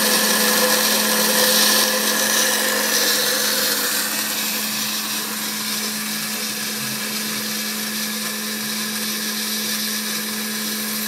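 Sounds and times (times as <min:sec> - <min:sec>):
cnc spindle motor whining: 0:00.0 - 0:11.0.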